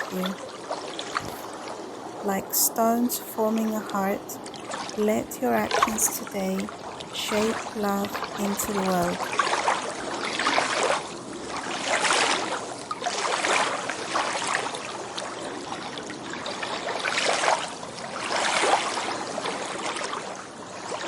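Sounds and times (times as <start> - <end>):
small waves washing ashore: 0.0 - 21.0.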